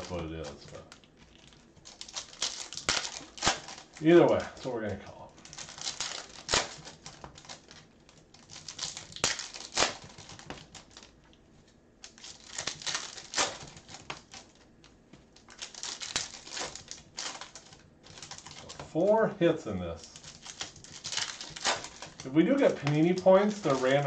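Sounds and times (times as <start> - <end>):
wrapper crinkling: 0.0 - 19.0, 19.9 - 24.0.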